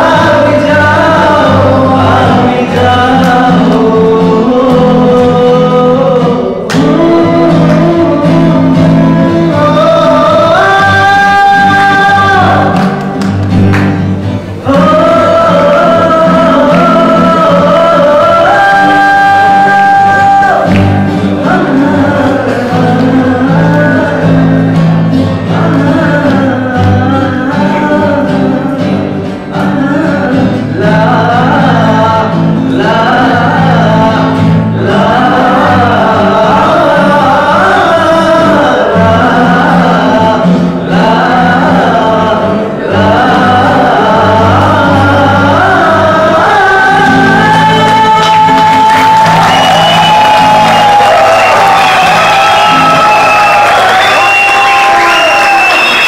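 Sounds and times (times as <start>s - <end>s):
man singing: 0.0s - 13.6s, 14.2s - 56.0s
acoustic guitar: 0.0s - 56.0s.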